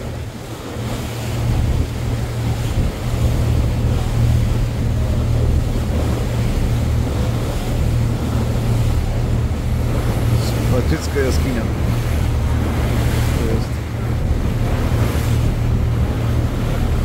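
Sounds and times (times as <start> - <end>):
boat engine droning: 0.0 - 17.0
rushing sea water: 0.0 - 17.0
wind on microphone: 0.0 - 17.0.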